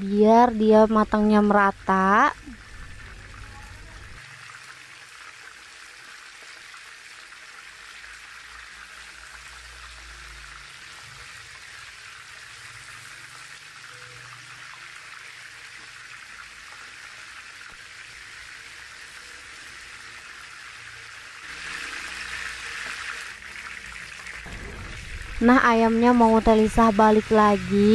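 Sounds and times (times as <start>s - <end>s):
chicken sizzling in hot oil: 0.0s - 27.9s.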